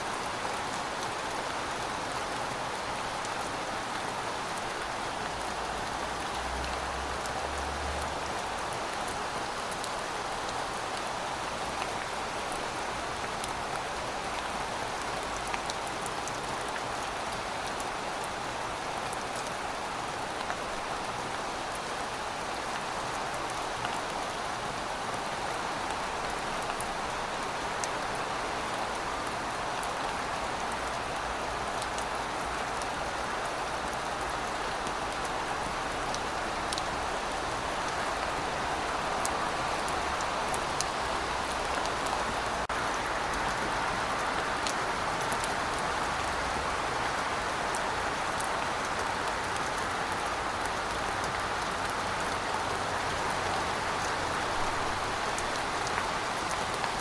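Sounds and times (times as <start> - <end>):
heavy rain: 0.0 - 57.0
raindrops ticking on surfaces: 0.0 - 57.0.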